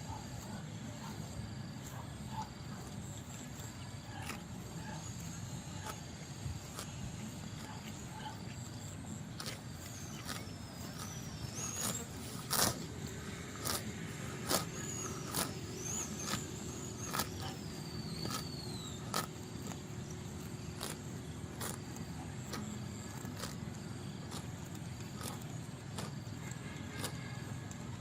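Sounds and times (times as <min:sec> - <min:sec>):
cow chewing feed: 0:00.0 - 0:28.0.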